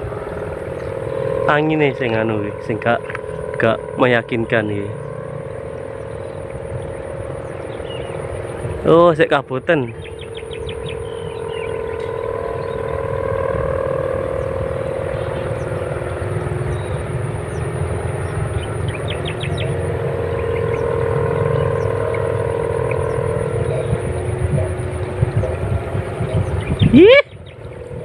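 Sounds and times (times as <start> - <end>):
kite hummer droning: 0.0 - 28.0
low wind rumble: 0.0 - 28.0.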